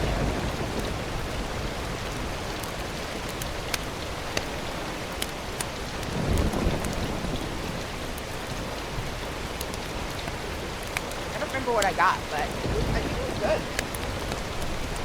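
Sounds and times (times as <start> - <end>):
rain hiss: 0.0 - 15.0
raindrop ticks: 0.0 - 15.0.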